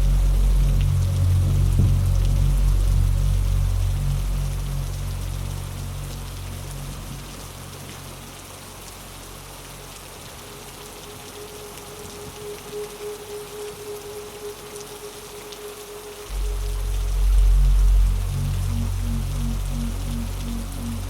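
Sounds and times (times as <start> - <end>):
low synth drone: 0.0 - 8.2, 11.1 - 21.0
steady rain falling: 0.0 - 21.0.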